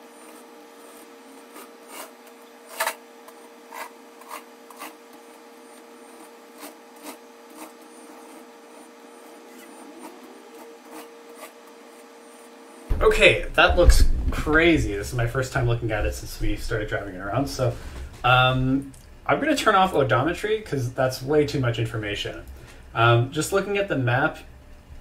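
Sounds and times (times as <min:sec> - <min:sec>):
quiet steady hum: 0:00.0 - 0:25.0.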